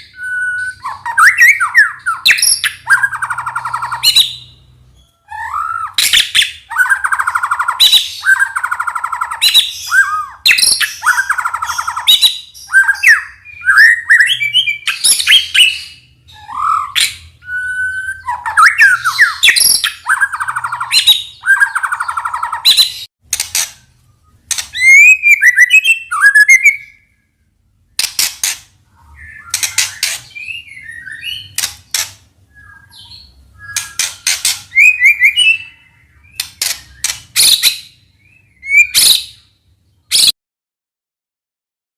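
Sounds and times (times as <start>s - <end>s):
songbird singing varied phrases: 0.0s - 23.1s, 23.9s - 28.0s, 28.9s - 40.3s.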